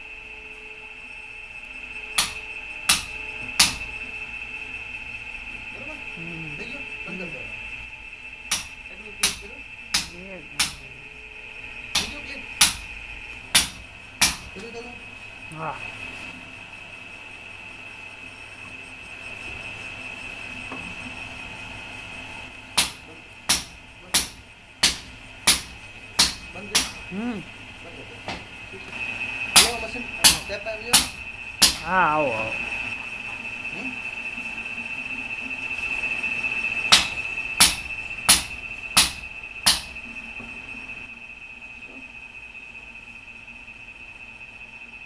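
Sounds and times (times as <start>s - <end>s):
low motor hum: 0.0s - 45.0s
machine high-pitched whine: 0.0s - 45.0s.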